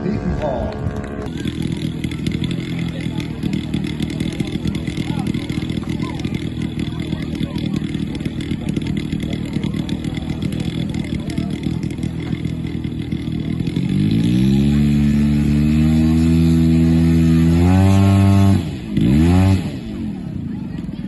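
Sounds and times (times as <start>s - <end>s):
model airplane engine running: 0.0s - 21.0s.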